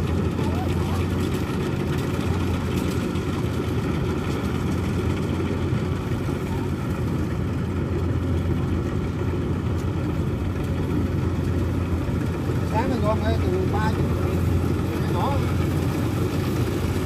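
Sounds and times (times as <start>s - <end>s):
harvester engine droning: 0.0s - 17.0s.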